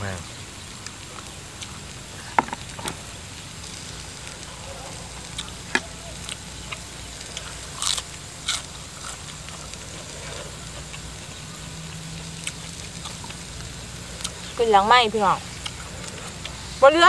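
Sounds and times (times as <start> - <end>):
meat sizzling on grill: 0.0 - 17.0
crunchy chewing: 0.6 - 16.8.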